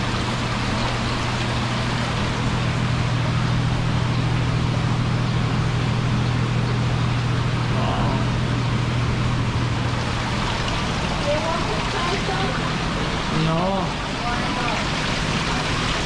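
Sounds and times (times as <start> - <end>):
circulating water hiss: 0.0 - 16.0
water pumps humming: 0.0 - 16.0.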